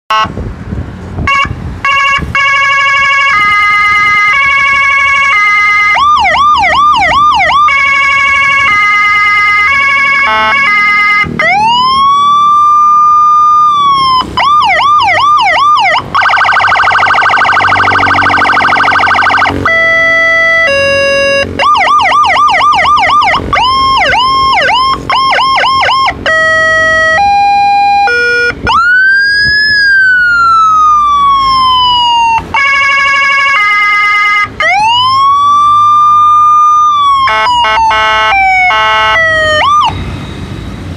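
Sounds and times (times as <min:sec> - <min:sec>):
electronic siren cycling tones: 0:02.6 - 0:40.4.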